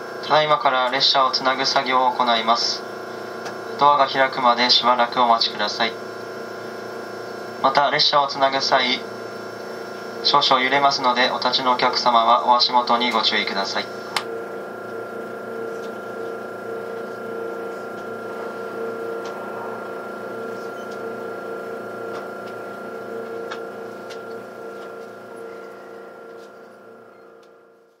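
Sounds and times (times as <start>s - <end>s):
train mechanical hum: 0.0s - 28.0s.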